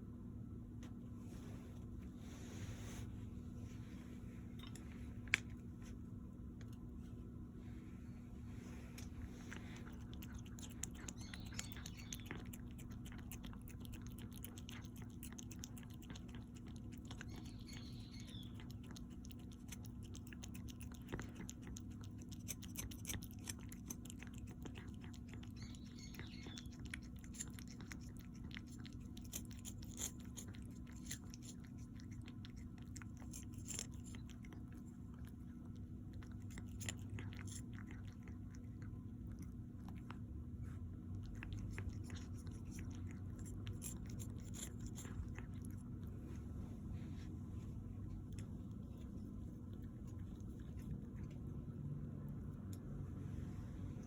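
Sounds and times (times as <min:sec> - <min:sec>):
low hum: 0:00.0 - 0:54.0
chewing and crunching: 0:08.4 - 0:54.0.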